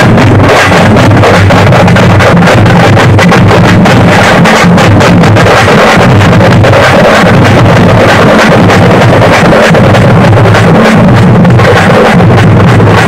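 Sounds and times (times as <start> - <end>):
drums pounding a fast beat: 0.0 - 13.0.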